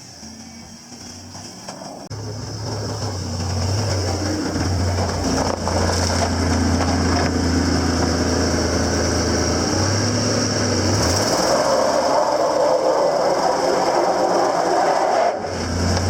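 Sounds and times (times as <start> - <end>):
vehicle engine running: 0.0 - 14.8.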